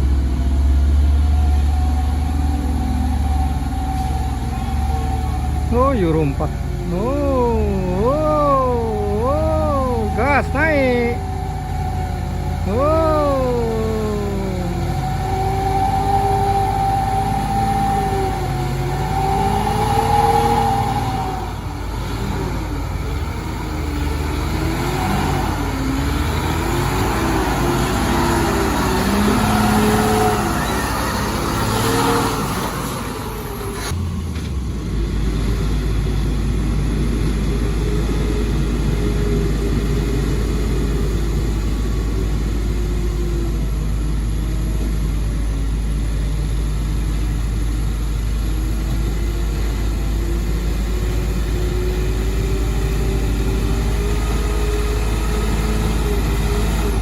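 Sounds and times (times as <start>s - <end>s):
heavy diesel engines revving: 0.0s - 57.0s.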